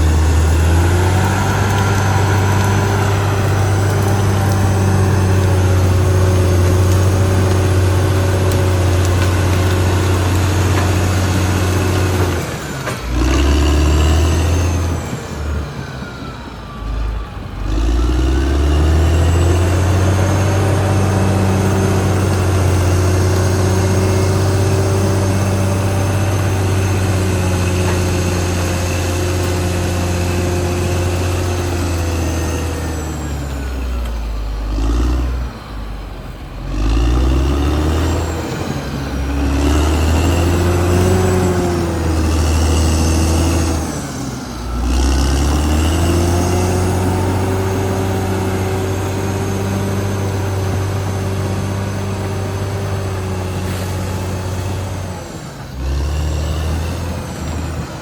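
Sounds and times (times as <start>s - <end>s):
bulldozer diesel engine revving: 0.0s - 58.0s.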